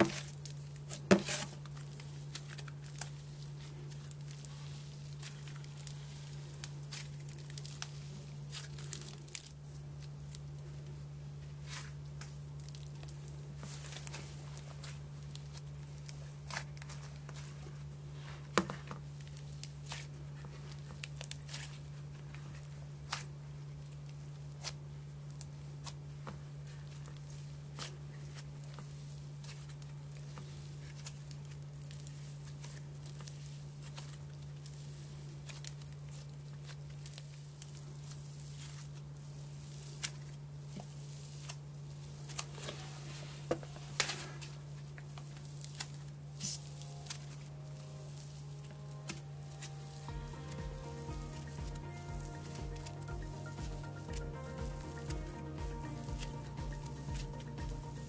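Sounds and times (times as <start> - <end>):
slime squishing and crackling: 0.0 - 58.0
steady low hum: 0.0 - 58.0.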